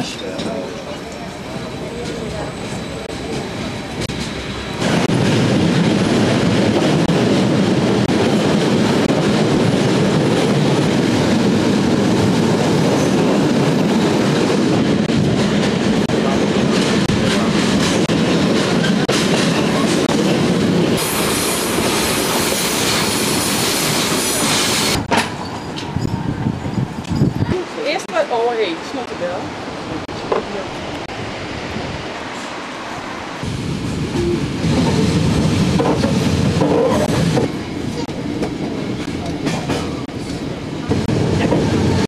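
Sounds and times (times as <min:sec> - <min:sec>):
rumble of wheels on rail: 0:00.0 - 0:42.0.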